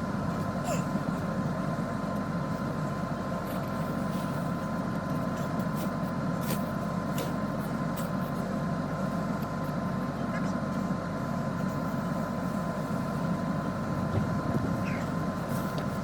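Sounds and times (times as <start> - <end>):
faint steady whine: 0.0 - 16.0
vehicle engine rumble: 0.0 - 16.0.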